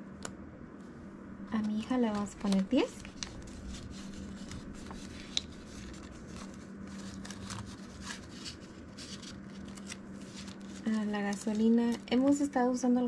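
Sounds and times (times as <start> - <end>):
steady low hum: 0.0 - 13.0
paper bills rustling: 1.5 - 12.6.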